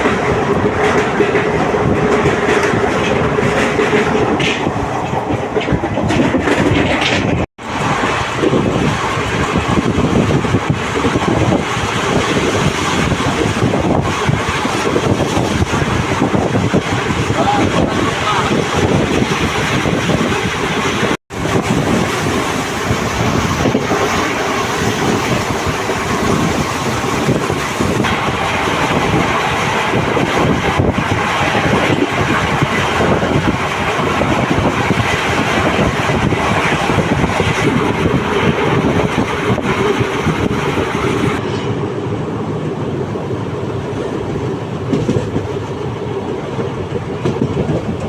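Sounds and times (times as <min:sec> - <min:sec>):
train wheels rumbling and rattling: 0:00.0 - 0:48.0
wind buffeting microphone: 0:00.0 - 0:48.0.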